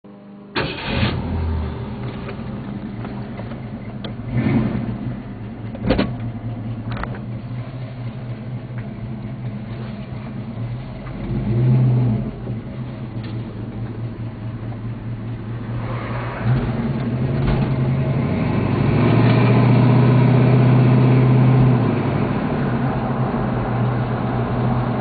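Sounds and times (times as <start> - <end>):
car engine running: 0.5 - 25.0.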